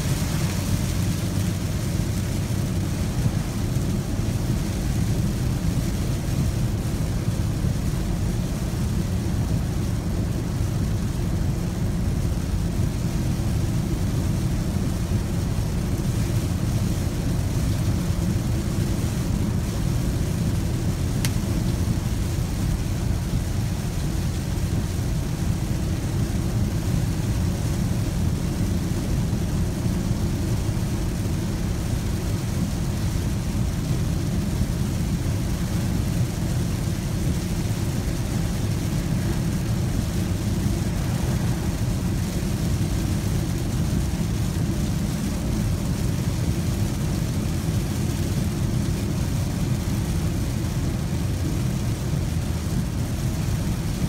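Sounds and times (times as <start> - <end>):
diesel engine drone: 0.0 - 54.0
rain and spray hissing: 0.0 - 54.0
tyres on wet road: 0.0 - 54.0.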